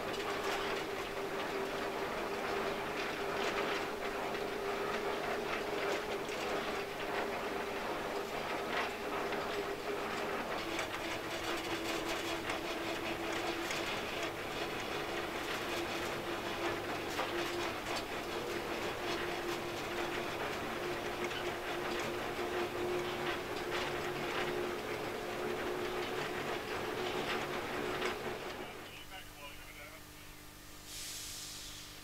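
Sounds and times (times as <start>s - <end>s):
wheels clicking on track: 0.0s - 29.0s.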